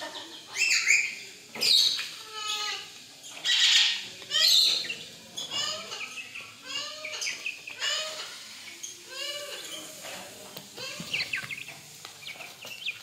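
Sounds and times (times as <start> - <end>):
birds squawking: 0.0 - 10.1, 10.7 - 13.0
birds chirping: 0.0 - 13.0.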